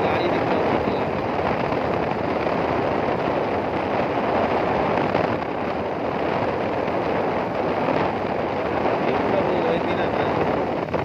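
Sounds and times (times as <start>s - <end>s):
road and vehicle noise: 0.0s - 11.0s
wind on microphone: 0.0s - 11.0s.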